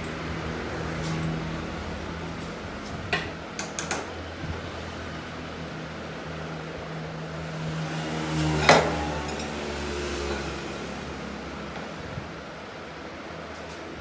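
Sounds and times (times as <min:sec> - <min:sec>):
workshop machine humming: 0:00.0 - 0:14.0.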